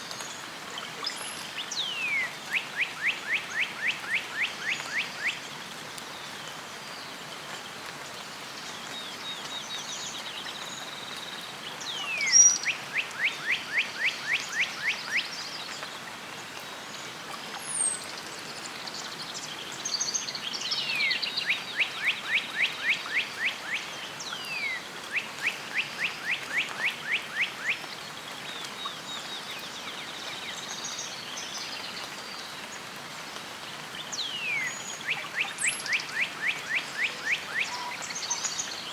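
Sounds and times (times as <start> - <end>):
steady outdoor hiss: 0.0 - 38.9
songbirds singing: 0.1 - 38.9.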